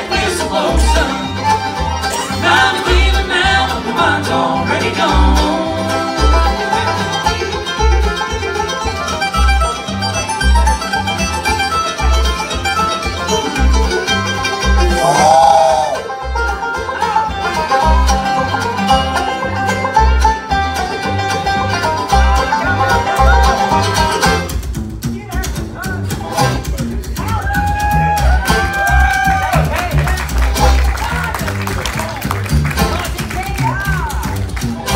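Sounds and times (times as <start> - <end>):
bluegrass band playing: 0.0 - 34.9
upright bass notes: 0.0 - 34.9.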